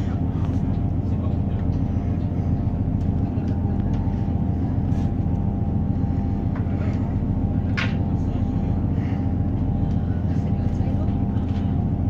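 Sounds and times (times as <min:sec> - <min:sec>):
train engine low hum: 0:00.0 - 0:12.0.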